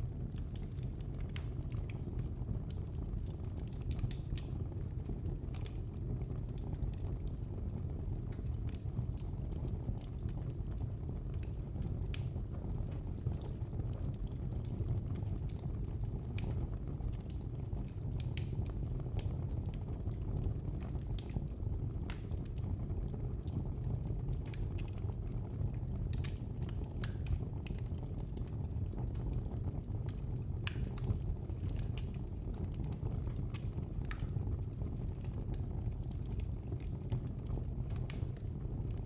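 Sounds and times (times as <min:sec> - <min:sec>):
fire crackling and popping: 0:00.0 - 0:39.0
fire flames rumbling: 0:00.0 - 0:39.0.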